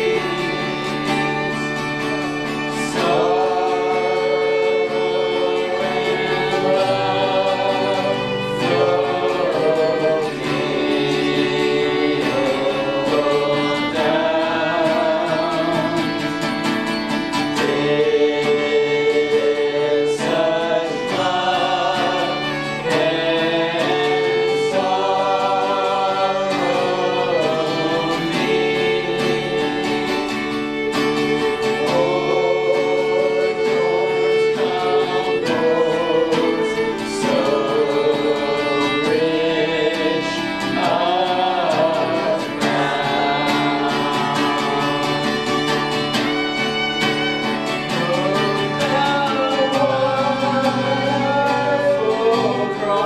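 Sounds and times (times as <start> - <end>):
group singing gospel song: 0.0 - 53.0
guitar accompaniment: 0.0 - 53.0.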